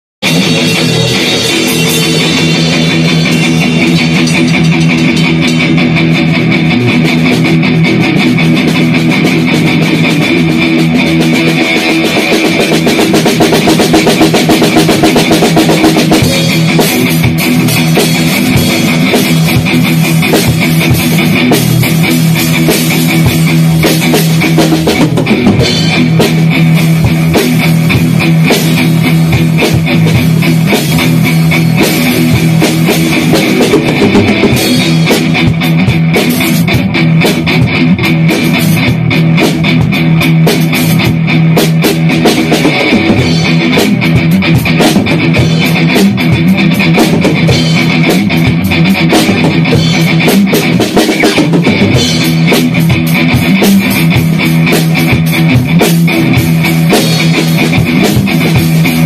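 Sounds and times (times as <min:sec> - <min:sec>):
drums: 0:00.0 - 0:59.0
electric guitar rock music: 0:00.2 - 0:59.0.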